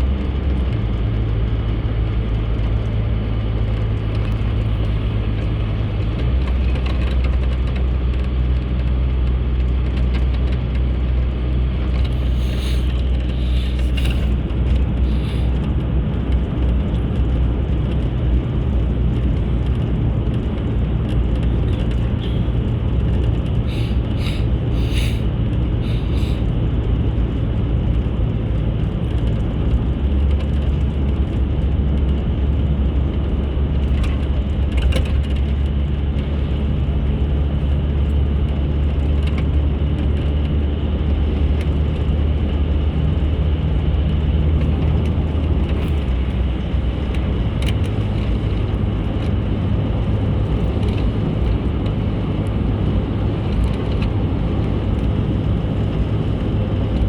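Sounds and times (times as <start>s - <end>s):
car engine hum: 0.0s - 57.0s
road noise: 0.0s - 57.0s.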